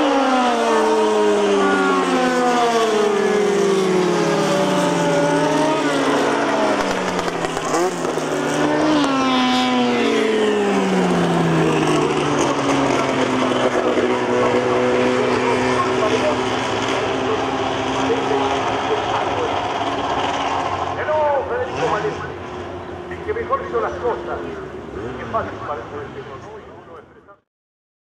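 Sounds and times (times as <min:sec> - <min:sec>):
race car engines passing: 0:00.0 - 0:27.4.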